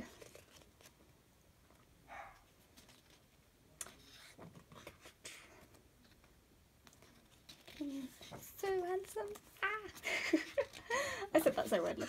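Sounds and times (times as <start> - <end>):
page turning rustle: 0.0 - 1.1, 2.5 - 11.6.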